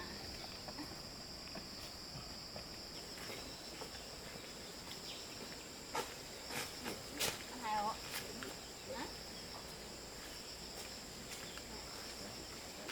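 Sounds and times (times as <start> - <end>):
insects chirping: 0.0 - 12.9.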